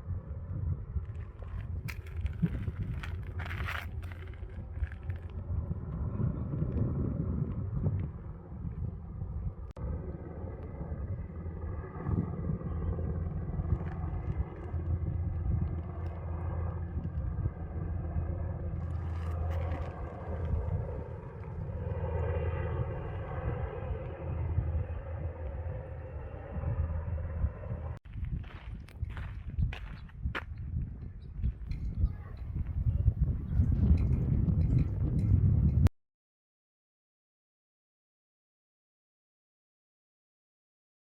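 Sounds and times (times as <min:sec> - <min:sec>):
faint engine drone: 0:00.0 - 0:35.9
low rumble: 0:00.0 - 0:35.9.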